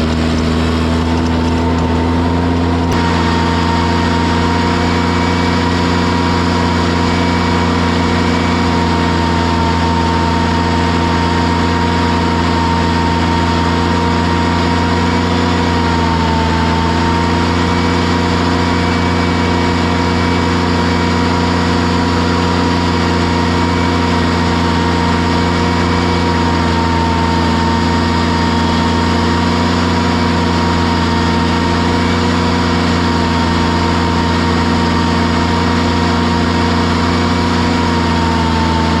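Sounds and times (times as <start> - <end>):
engine running with whine: 0.0 - 39.0.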